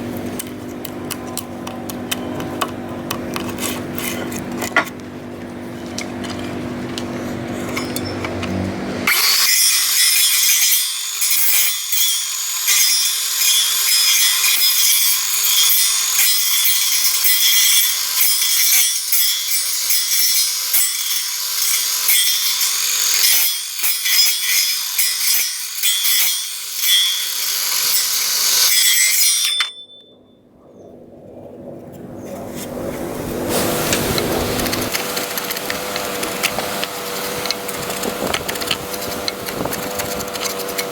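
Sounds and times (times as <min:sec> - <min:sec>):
saw cutting wood: 0:00.0 - 0:29.7, 0:33.0 - 0:40.9.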